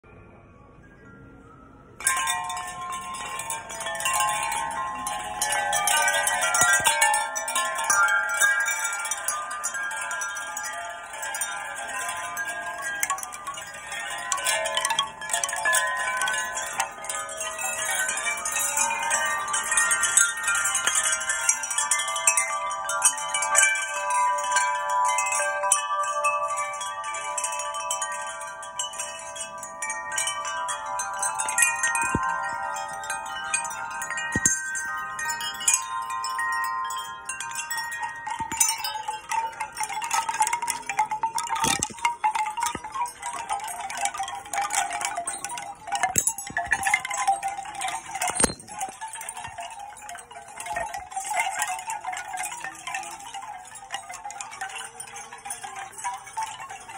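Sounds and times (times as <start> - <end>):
metal tube wind chimes ringing: 0.1 - 56.9
bamboo chimes knocking: 2.0 - 56.9.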